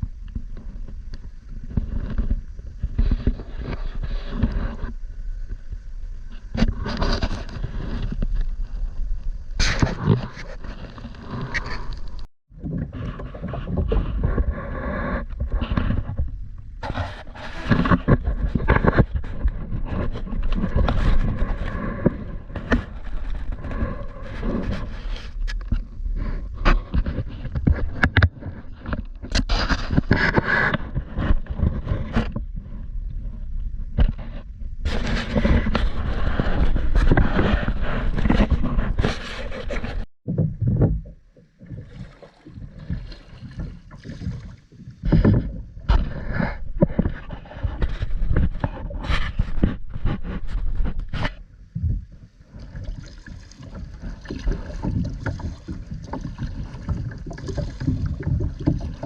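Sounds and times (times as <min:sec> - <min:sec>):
knocks and scrapes against hull: 0:00.0 - 0:59.0.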